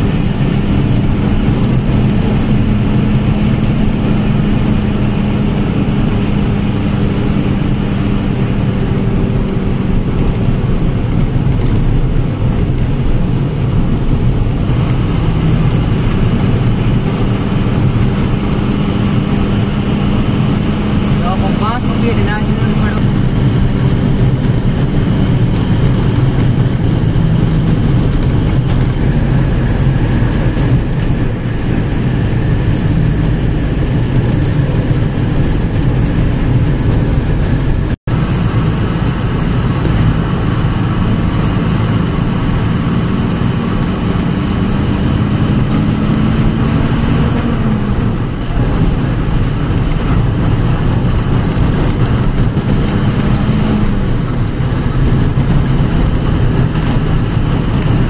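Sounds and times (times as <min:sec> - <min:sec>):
tyre and wind noise: 0:00.0 - 0:58.0
vehicle engine hum: 0:00.0 - 0:58.0.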